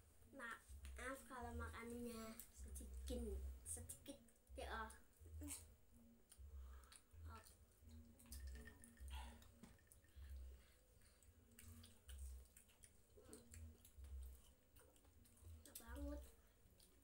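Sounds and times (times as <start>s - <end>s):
children chewing food: 2.1s - 17.0s.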